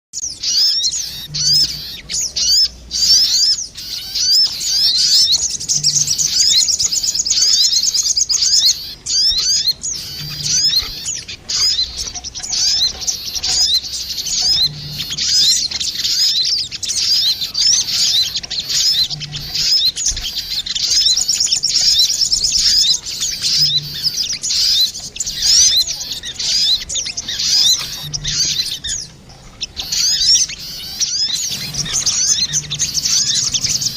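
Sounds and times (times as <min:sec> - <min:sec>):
birds chirping and trilling: 0:00.2 - 0:33.9.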